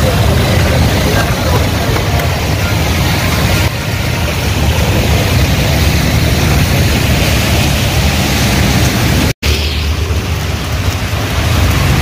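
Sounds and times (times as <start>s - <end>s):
motorbike engines rumbling: 0.0s - 12.0s
rain hissing: 0.0s - 12.0s
tyres splashing through water: 0.0s - 12.0s.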